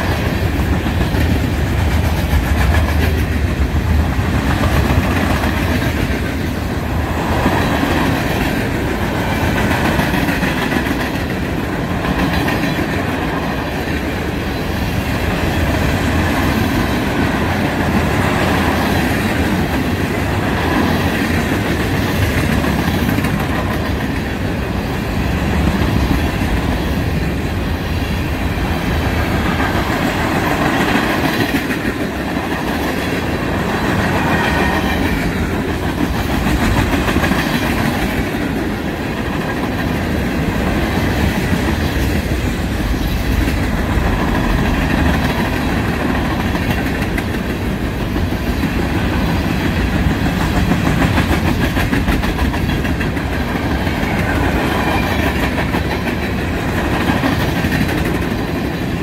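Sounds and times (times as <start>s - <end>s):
steel wheels running on rail: 0.0s - 59.0s.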